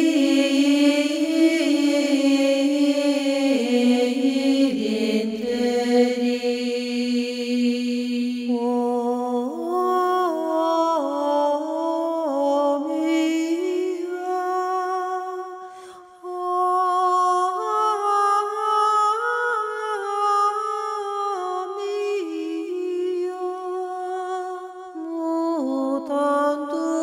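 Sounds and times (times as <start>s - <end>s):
woman singing a slow chant: 0.0s - 27.0s.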